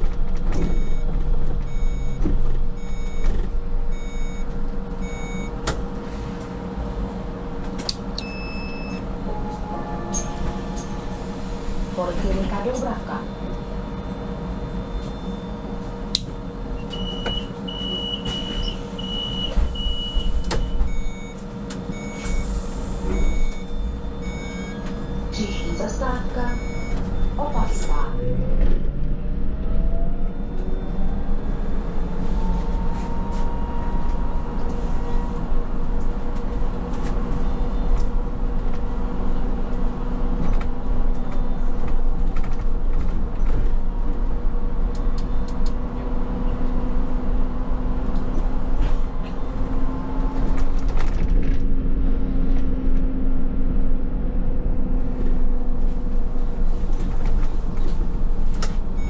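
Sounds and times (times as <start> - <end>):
trolleybus running noise: 0.0 - 59.0.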